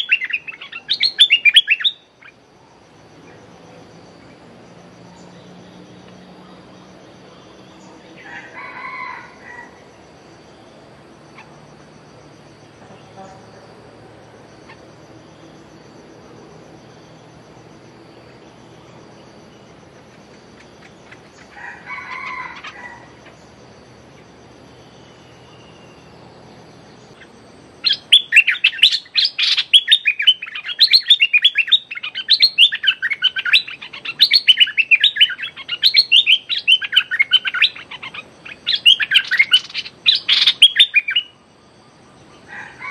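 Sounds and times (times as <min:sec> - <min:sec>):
bird calling: 0:00.0 - 0:42.9
insect whine: 0:00.0 - 0:42.9.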